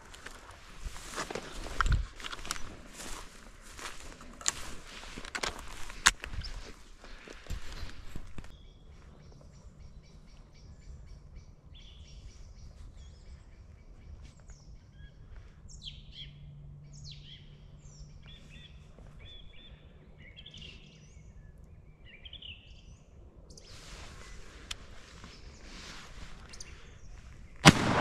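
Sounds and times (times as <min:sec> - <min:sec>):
songbirds chirping and singing: 0:01.1 - 0:27.6.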